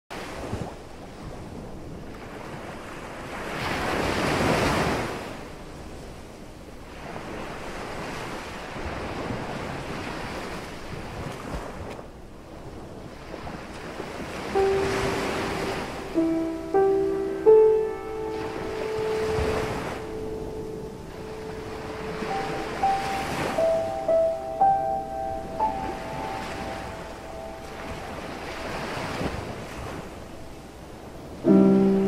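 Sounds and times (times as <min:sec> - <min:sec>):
waves washing in: 0:00.1 - 0:32.0
wind: 0:00.1 - 0:32.0.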